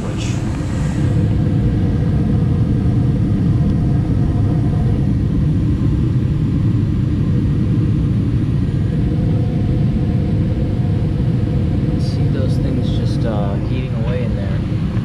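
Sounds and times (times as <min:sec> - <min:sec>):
gas furnace low rumble: 0:00.0 - 0:15.0.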